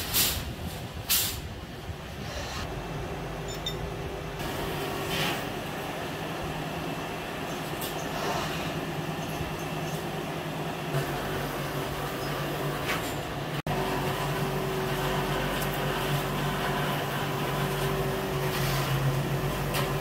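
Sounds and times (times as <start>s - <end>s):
machinery motor hum: 2.7s - 20.0s.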